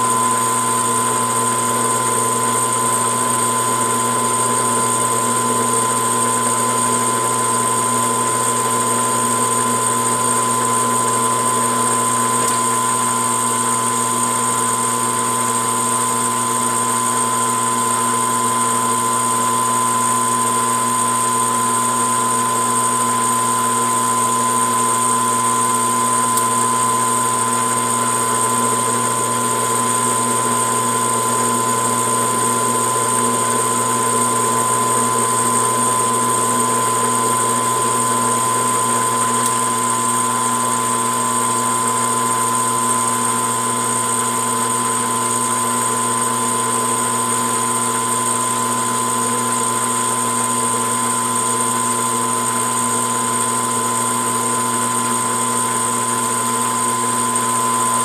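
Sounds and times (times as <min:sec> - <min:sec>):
metal lathe whining: 0:00.0 - 0:58.0.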